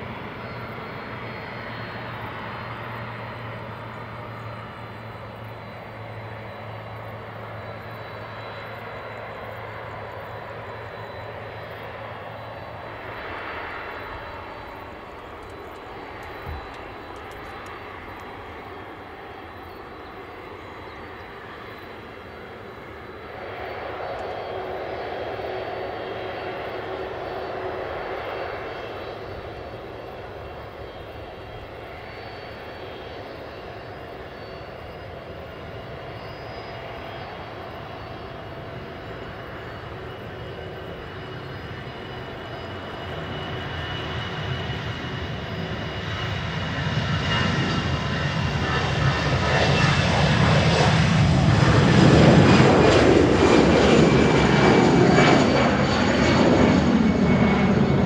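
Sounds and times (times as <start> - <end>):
jet engines taxiing: 0.0 - 58.0.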